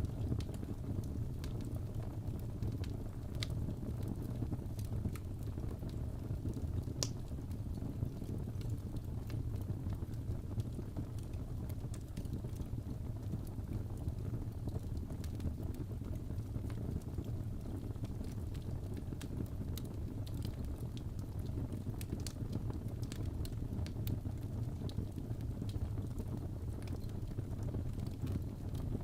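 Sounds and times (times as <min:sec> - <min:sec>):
fire popping and crackling: 0:00.0 - 0:29.0
fire rumbling: 0:00.0 - 0:29.0.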